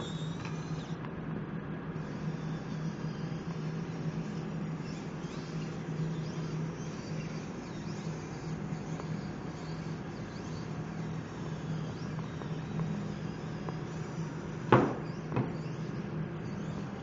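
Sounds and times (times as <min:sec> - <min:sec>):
robot motors humming: 0:00.0 - 0:17.0.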